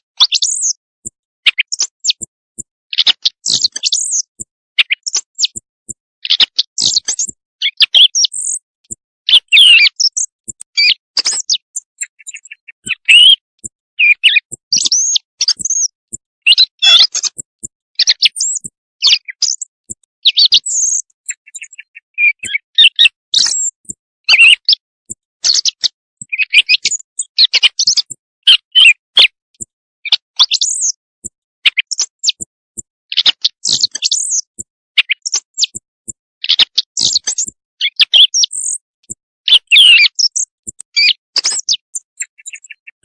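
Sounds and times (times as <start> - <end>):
recorded bird chirps and twittering: 0.0 - 43.0.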